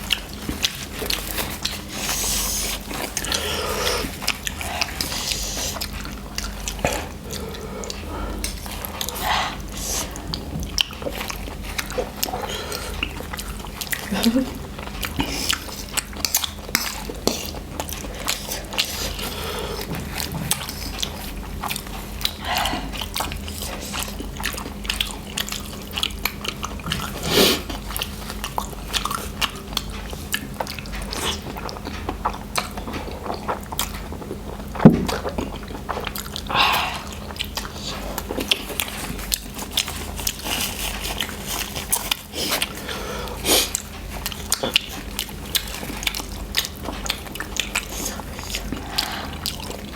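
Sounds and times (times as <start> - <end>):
chewing and mouth clicks: 0.0 - 49.9.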